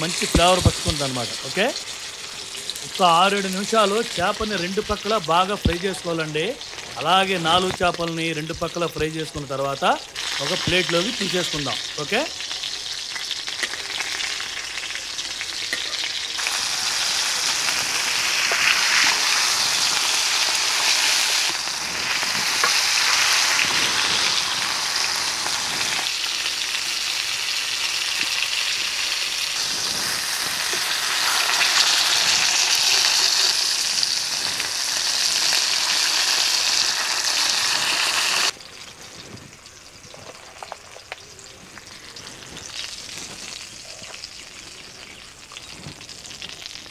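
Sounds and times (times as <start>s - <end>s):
fish sizzling in oil: 0.0s - 46.9s.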